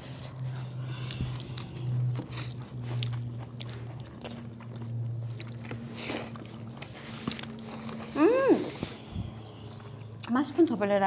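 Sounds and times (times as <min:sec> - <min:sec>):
chewing and biting: 0:00.0 - 0:10.4
low steady hum: 0:00.0 - 0:11.0.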